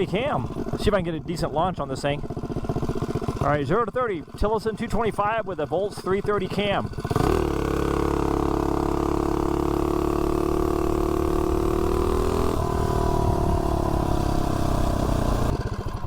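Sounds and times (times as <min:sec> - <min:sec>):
mini bike engine at full throttle: 0:00.0 - 0:16.0.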